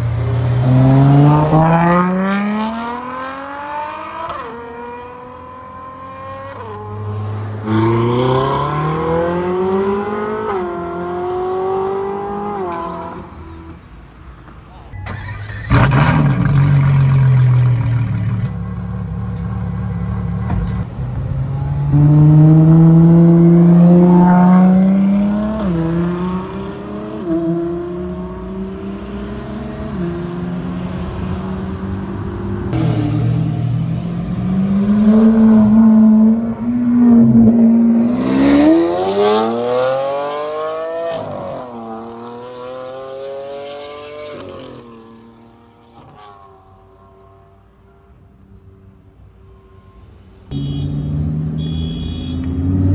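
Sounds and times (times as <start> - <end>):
car engine accelerating with upshifts: 0.0 - 13.8, 15.2 - 46.4, 50.5 - 52.9.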